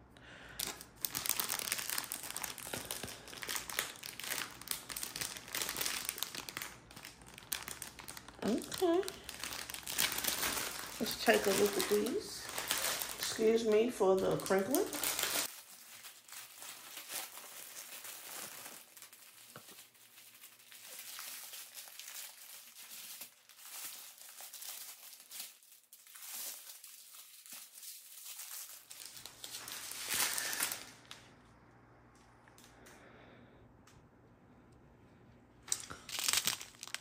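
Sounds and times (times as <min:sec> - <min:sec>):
plastic bags crinkling: 0:00.4 - 0:31.5, 0:35.6 - 0:37.0.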